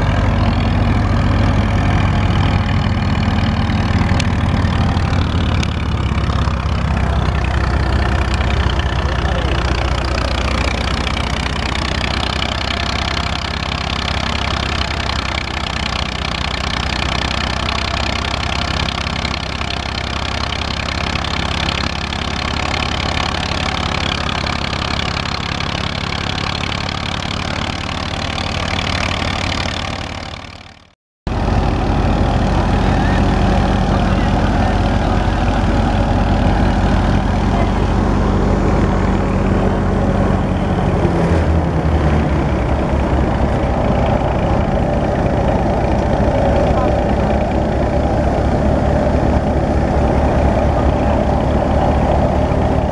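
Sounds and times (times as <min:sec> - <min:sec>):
thresher machinery running: 0:00.0 - 0:52.9
tractor diesel engine running: 0:00.0 - 0:52.9.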